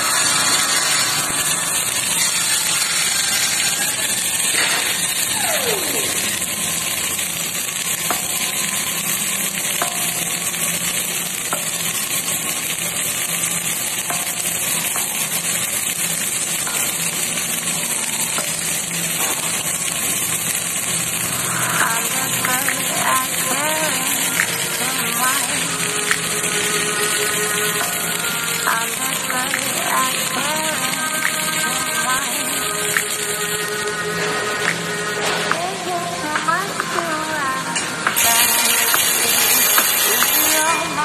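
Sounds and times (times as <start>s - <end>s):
welding arc crackling: 0.0s - 41.0s.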